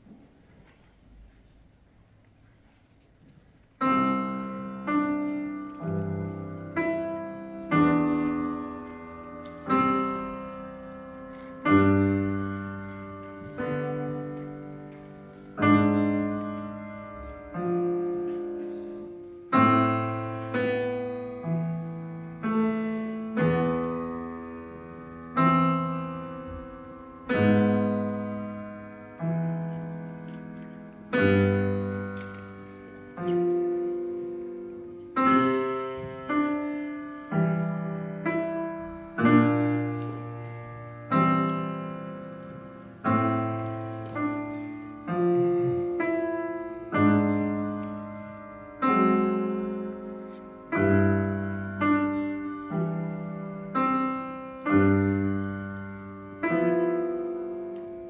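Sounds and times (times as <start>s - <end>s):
grand piano played slowly: 0.0s - 58.0s.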